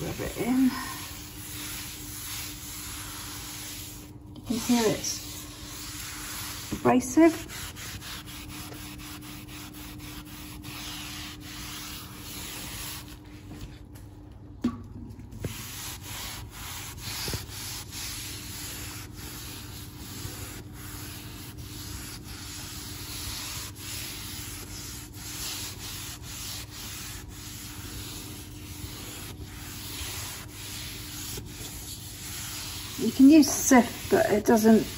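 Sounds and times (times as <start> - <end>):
cloth scrubbing gritty powder: 0.0 - 13.8, 15.4 - 34.9.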